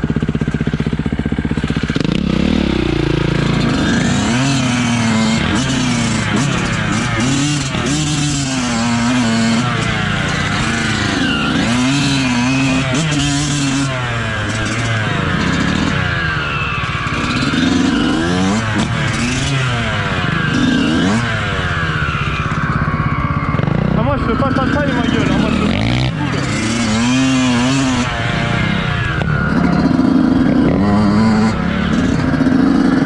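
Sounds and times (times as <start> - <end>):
motocross bike engine revving: 0.0 - 33.0.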